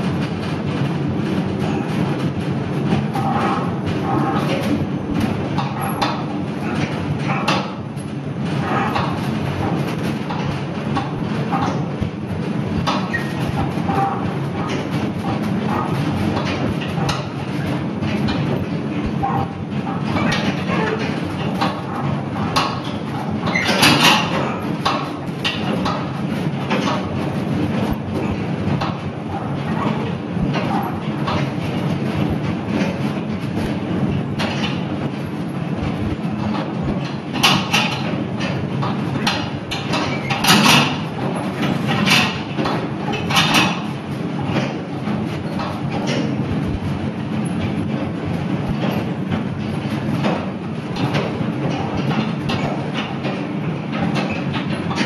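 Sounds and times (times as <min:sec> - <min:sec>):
clicks and clatter: 0:00.0 - 0:55.0.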